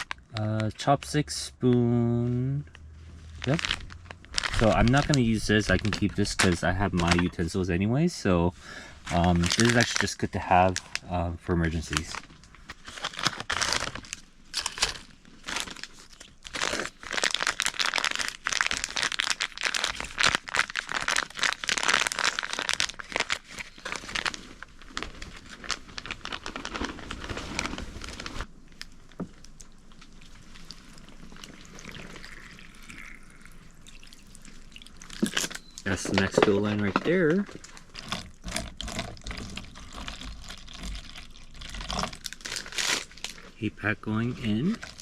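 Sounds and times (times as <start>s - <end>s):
plastic packaging crinkling: 0.0s - 0.9s, 2.4s - 7.7s, 9.0s - 45.0s.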